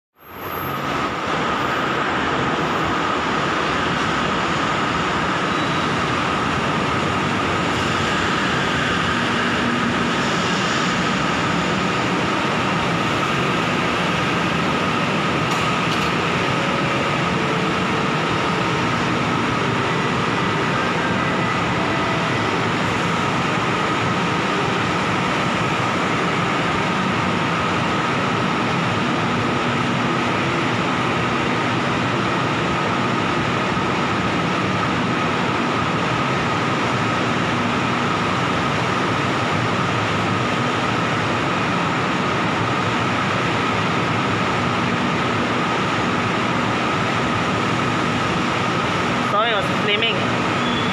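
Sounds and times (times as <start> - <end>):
train and station noise: 0.2 - 50.9.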